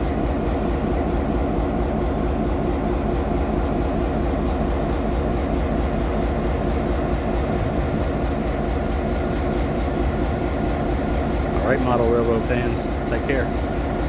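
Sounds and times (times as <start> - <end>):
locomotive engine droning: 0.0 - 14.0.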